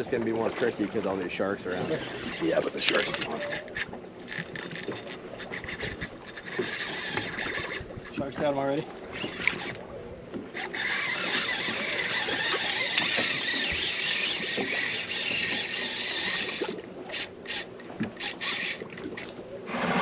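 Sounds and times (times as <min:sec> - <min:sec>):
fishing reel drag buzzing: 0:01.6 - 0:09.9, 0:10.5 - 0:18.9.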